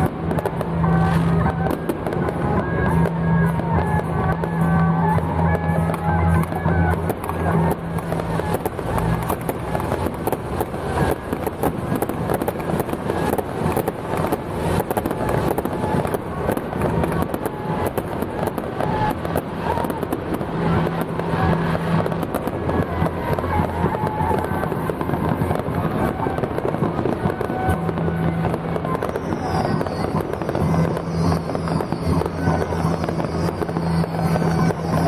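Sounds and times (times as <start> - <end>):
firecrackers popping: 0.0 - 35.0.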